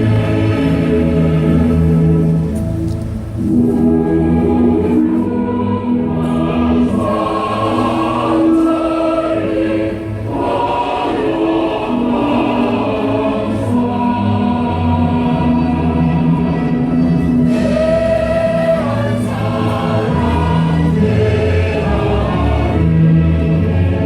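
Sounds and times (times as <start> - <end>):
choir singing long held notes: 0.0 - 24.0.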